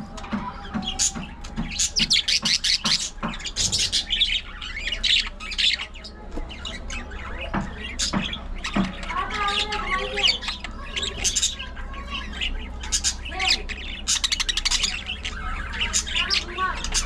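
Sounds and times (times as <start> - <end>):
budgerigars chattering: 0.7 - 17.0.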